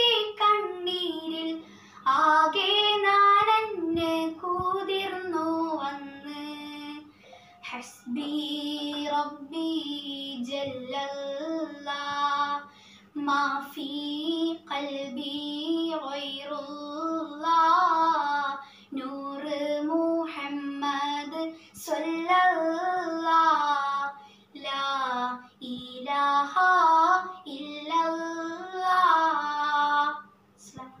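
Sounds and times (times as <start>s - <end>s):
boy singing unaccompanied: 0.0s - 31.0s.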